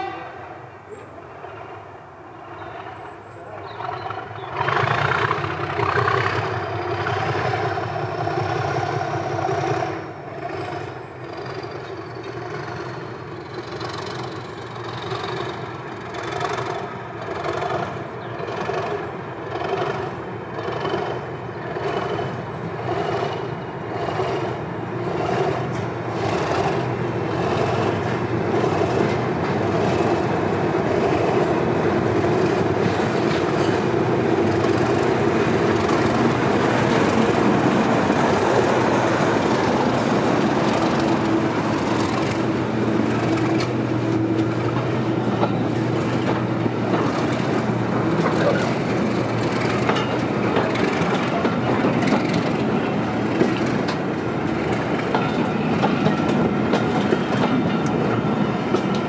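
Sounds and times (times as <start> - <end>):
diesel locomotive engine: 0.0 - 59.0
regular beat of train wheels: 3.8 - 59.0.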